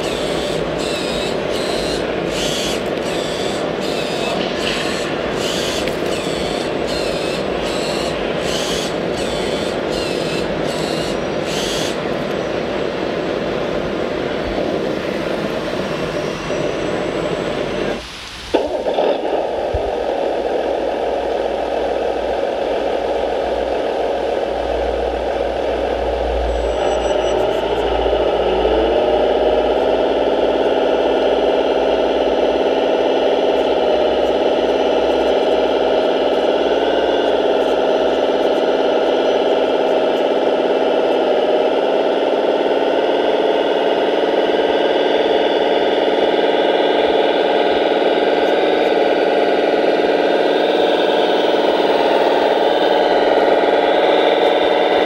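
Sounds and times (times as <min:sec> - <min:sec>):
model machinery mechanical noise: 0:00.0 - 0:55.0
motor hum rising in pitch: 0:00.0 - 0:55.0.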